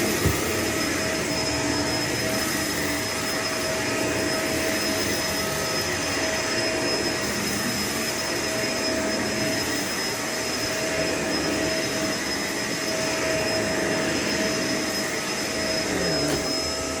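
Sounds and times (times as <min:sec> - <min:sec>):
vacuum cleaner motor running: 0:00.0 - 0:17.0.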